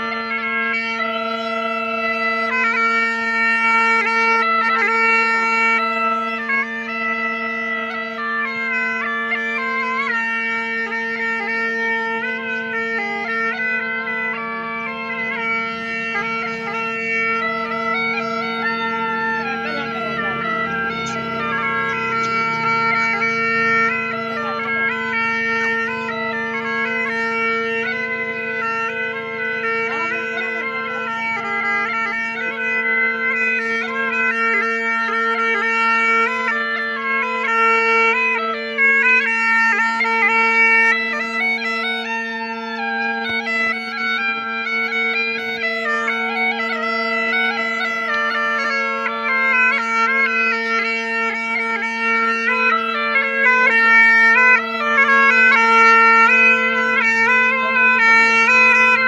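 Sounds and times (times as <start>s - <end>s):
ornamented wind instrument melody: 0.0s - 59.0s
wind instrument drone: 0.0s - 59.0s.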